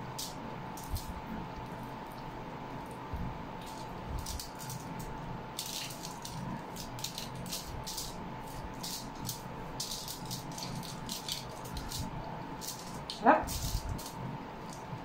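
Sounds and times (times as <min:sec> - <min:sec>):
fried fish crackling: 0:00.0 - 0:15.0.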